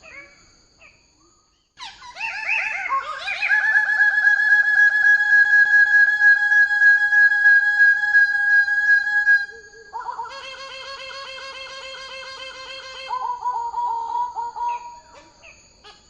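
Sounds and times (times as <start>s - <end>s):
bird calling repeated notes: 1.8s - 16.0s.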